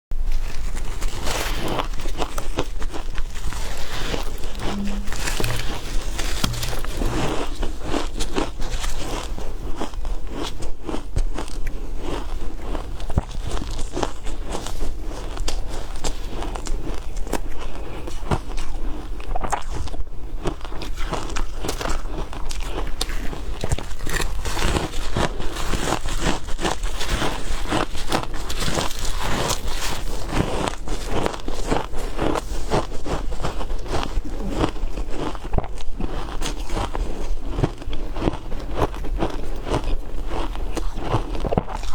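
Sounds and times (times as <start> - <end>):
shaved ice being chewed: 0.2 - 41.9.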